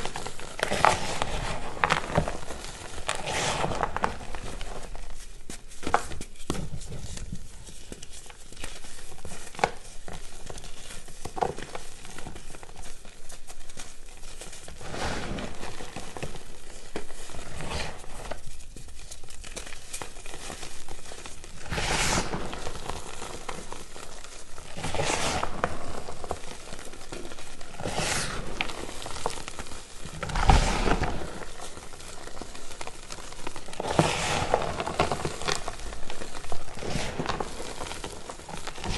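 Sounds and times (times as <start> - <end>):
chalk crackling when crushed by hand: 0.0 - 38.9
loud chalk crunches: 0.0 - 38.9.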